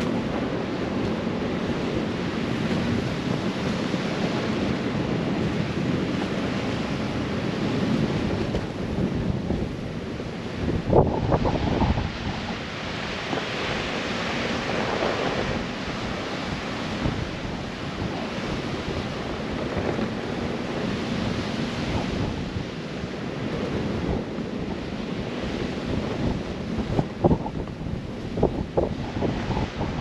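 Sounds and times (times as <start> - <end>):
blizzard wind gusting: 0.0 - 30.0.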